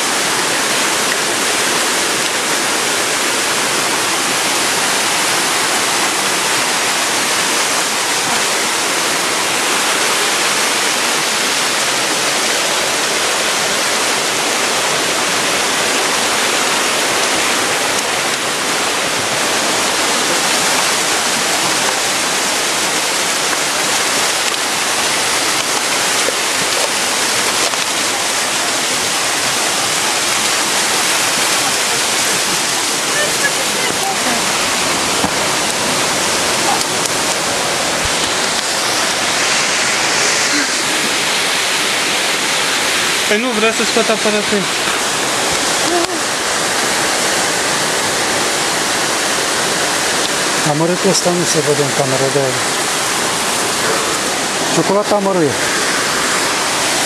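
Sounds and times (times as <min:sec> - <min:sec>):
stream cascading over rocks: 0:00.0 - 0:57.0.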